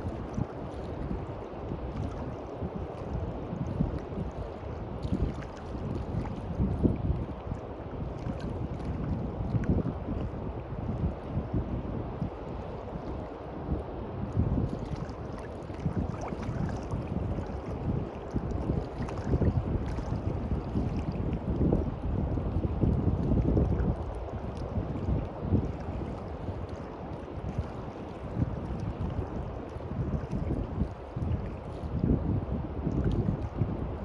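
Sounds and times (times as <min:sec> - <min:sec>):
waves washing on beach: 0:00.0 - 0:11.5, 0:12.1 - 0:34.0
wind buffeting microphone: 0:00.0 - 0:34.0.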